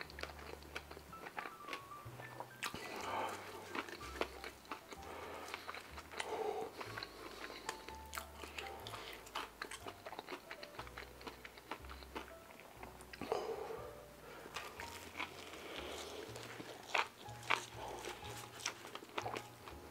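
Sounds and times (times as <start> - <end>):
faint background music bass line: 0.0 - 19.9
wet chewing of a sandwich: 0.0 - 19.9.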